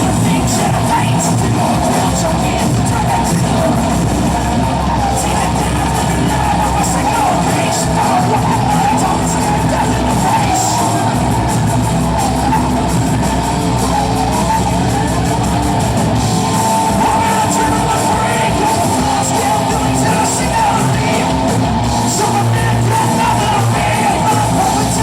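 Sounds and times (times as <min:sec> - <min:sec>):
electric guitar: 0:00.0 - 0:25.0
live rock band playing: 0:00.0 - 0:25.0
sung and yelled vocals: 0:00.0 - 0:25.0.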